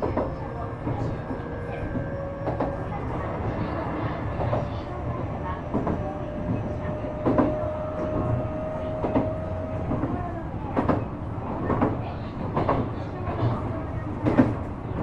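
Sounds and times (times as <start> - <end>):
rumble of train wheels on rail: 0.0 - 15.0.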